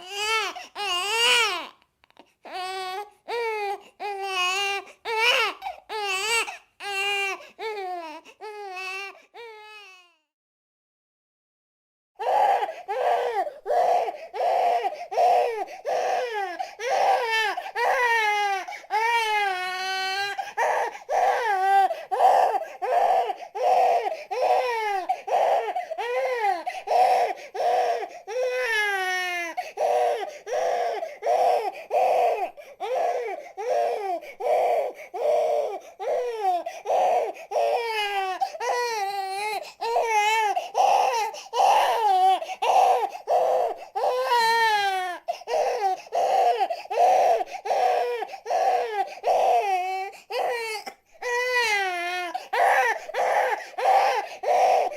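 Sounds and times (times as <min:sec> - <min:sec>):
baby crying: 0:00.0 - 0:10.3, 0:12.2 - 0:54.9.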